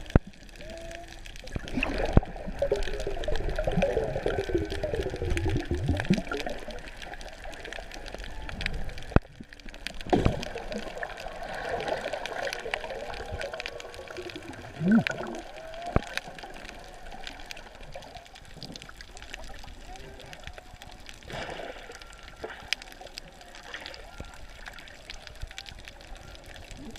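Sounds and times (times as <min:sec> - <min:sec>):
sharp clicks and crackles: 0:00.0 - 0:26.9
underwater bubbles gurgling: 0:00.0 - 0:26.9.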